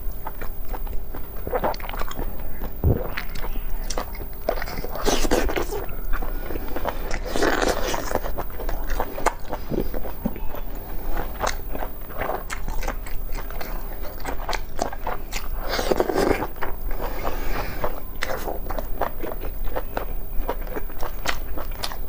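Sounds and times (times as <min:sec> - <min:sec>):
wet chewing and mouth smacks: 0:00.2 - 0:22.0.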